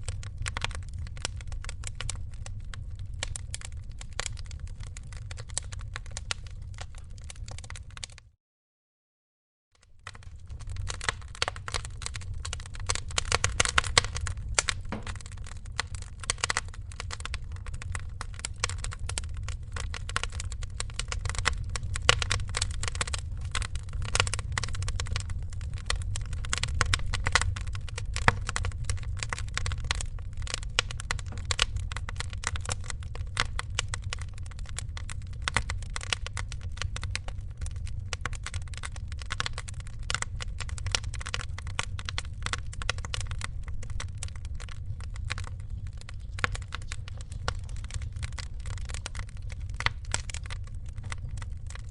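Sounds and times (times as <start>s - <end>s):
wood fire crackling: 0.0s - 8.2s, 9.8s - 51.9s
fire low rumble: 0.0s - 8.3s, 9.8s - 51.9s.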